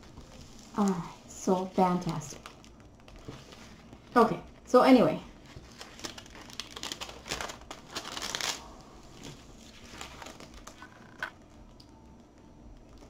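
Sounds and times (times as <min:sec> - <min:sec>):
plastic film crinkling: 0:00.0 - 0:04.7, 0:05.3 - 0:11.8.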